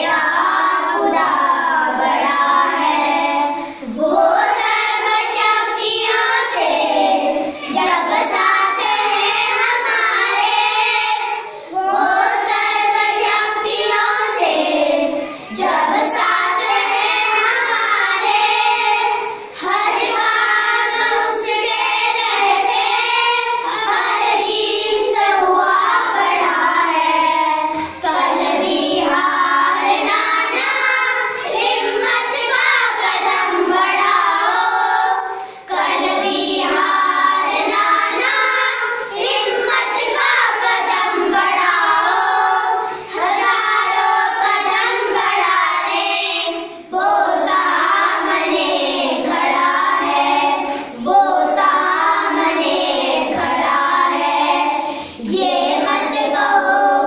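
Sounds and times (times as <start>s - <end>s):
children singing unaccompanied: 0.0s - 57.0s.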